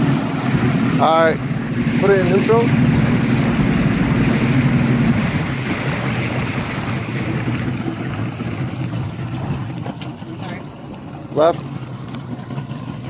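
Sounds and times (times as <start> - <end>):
outboard engine running: 0.0 - 13.0
water rushing along hull: 0.0 - 13.0.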